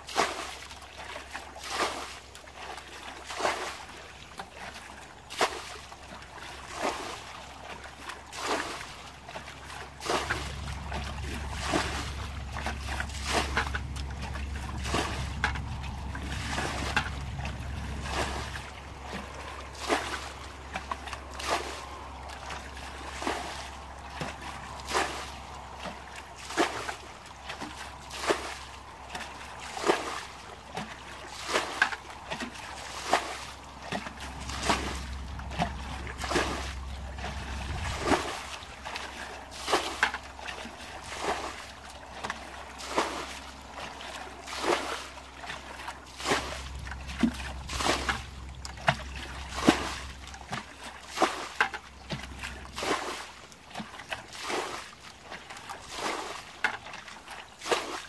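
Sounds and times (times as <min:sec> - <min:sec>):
bucket splashing water: 0:00.0 - 0:58.0.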